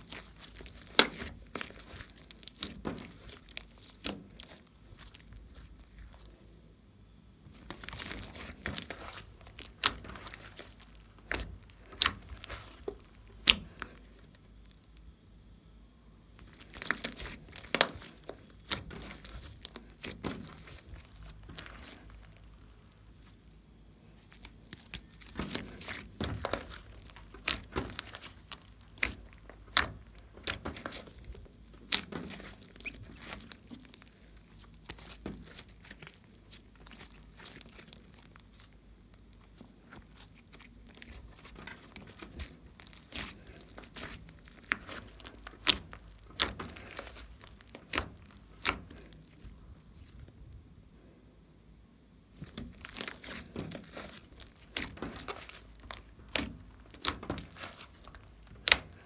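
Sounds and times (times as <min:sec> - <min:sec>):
slime squishing with pops: 0:00.0 - 0:06.5, 0:07.4 - 0:15.2, 0:16.3 - 0:23.4, 0:24.2 - 0:50.6, 0:52.3 - 0:59.0.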